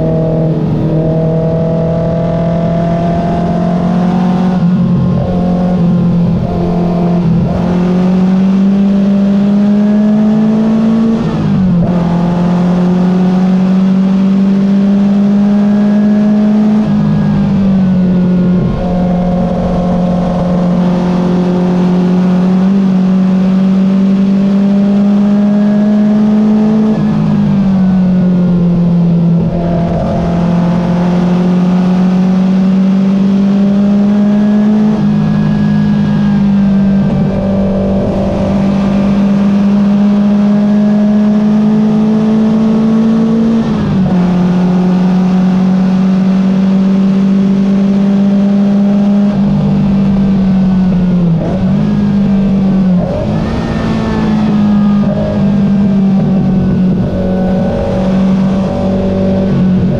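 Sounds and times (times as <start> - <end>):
race car engine under load: 0.0 - 59.9.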